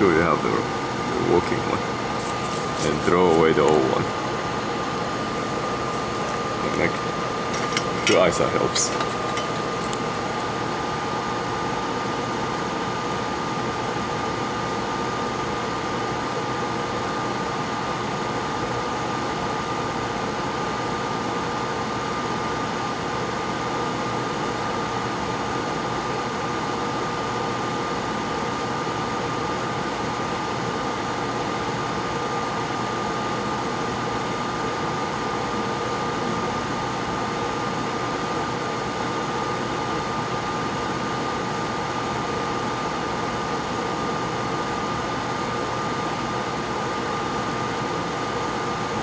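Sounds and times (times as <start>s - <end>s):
fan blowing air: 0.0s - 49.0s.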